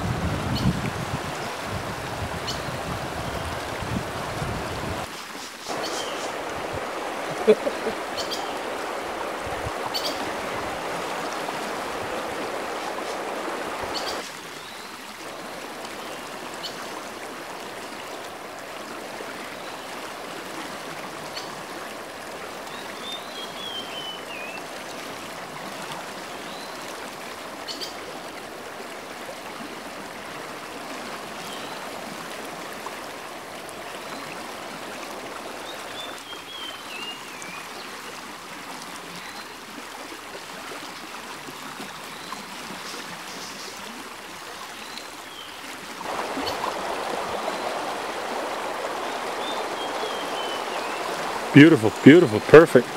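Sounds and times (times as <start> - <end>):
creek flowing over stones: 0.0 - 52.9.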